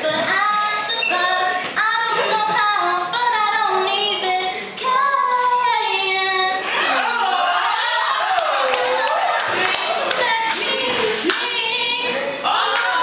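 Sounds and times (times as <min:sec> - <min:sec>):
girl singing: 0:00.0 - 0:06.8, 0:08.6 - 0:13.0.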